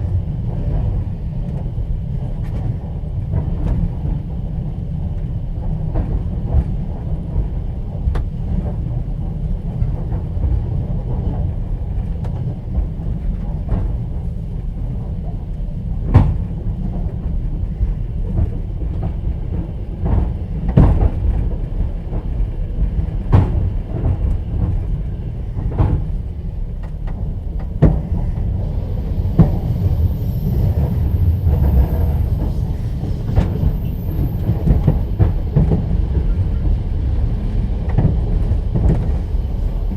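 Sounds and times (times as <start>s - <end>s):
train running gear rumbling: 0.0s - 39.9s.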